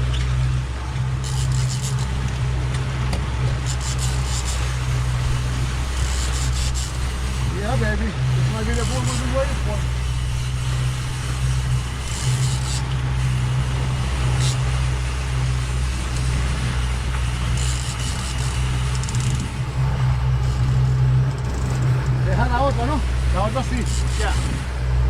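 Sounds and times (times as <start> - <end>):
boat engine humming: 0.0 - 25.0
wind and water rushing: 2.0 - 25.0.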